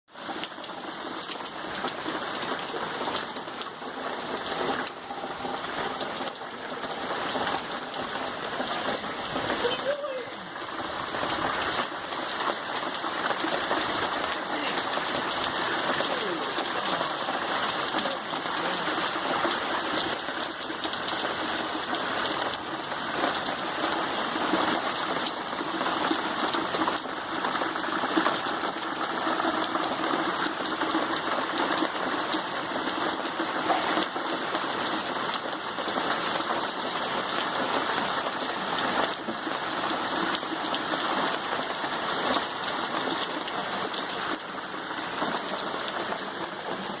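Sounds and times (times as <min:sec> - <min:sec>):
heavy rain falling: 0:00.1 - 0:47.0.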